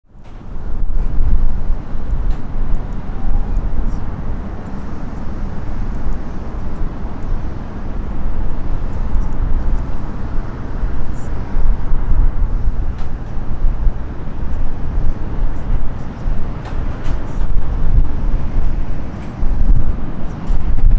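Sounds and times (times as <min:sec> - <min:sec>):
wind buffeting microphone: 0:00.1 - 0:20.9.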